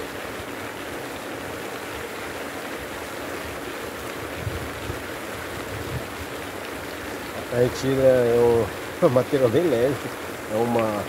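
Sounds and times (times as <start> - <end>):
pond aerator splashing water: 0.0 - 11.0.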